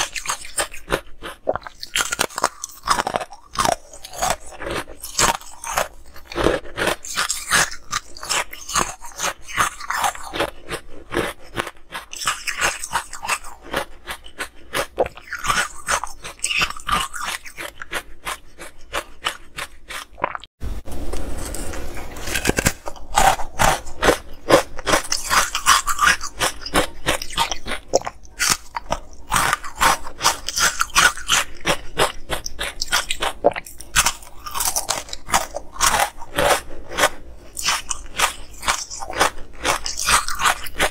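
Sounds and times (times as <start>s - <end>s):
crunching and chewing ice: 0.0s - 20.5s, 21.4s - 40.9s.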